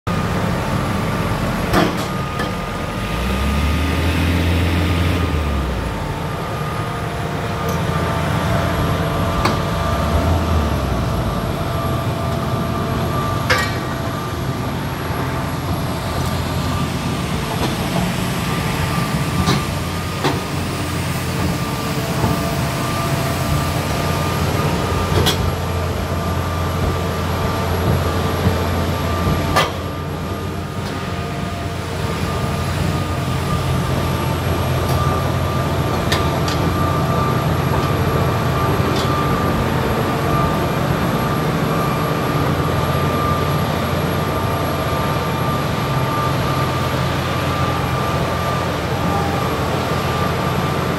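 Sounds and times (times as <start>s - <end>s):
diesel engine idling: 0.1s - 50.9s.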